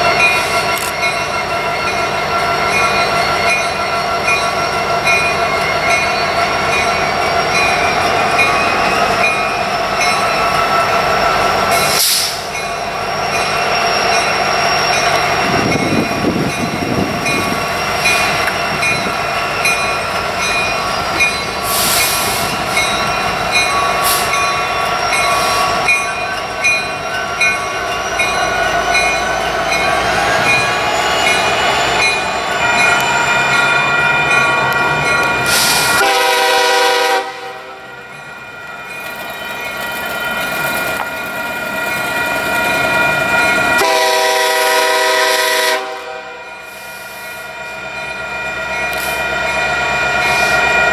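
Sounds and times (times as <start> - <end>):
locomotive rumble: 0.0 - 46.3
train wheels squealing on rails: 0.0 - 50.9.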